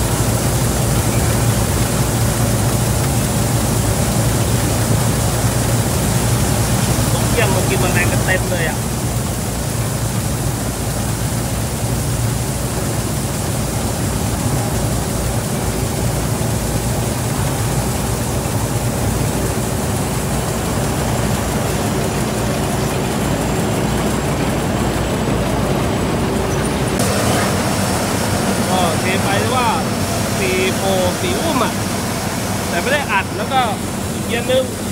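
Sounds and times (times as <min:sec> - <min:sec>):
combine harvester engine drone: 0:00.0 - 0:34.9.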